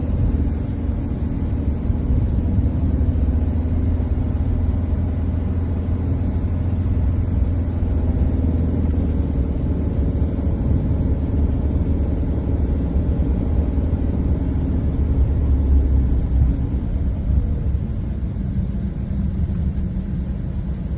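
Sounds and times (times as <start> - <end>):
car engine and road rumble: 0.0 - 20.9.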